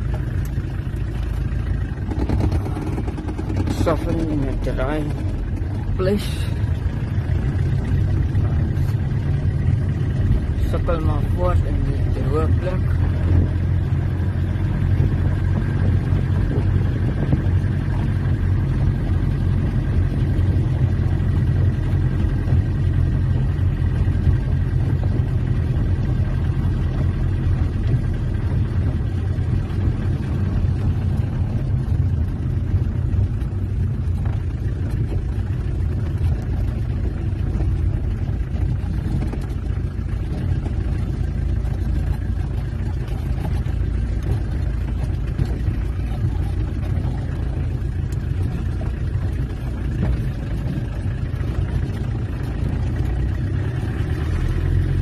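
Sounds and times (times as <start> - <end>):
diesel engine rumbling: 0.0 - 55.0
road noise: 0.0 - 55.0.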